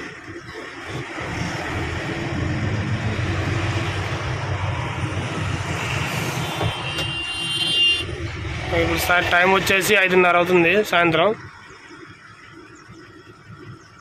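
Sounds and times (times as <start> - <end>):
diesel truck engine running: 0.0 - 14.0
road noise: 0.0 - 14.0.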